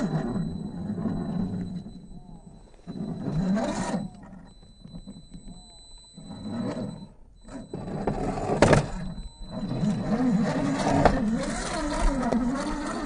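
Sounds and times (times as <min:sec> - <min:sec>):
toy car motor whining: 0:00.0 - 0:13.0.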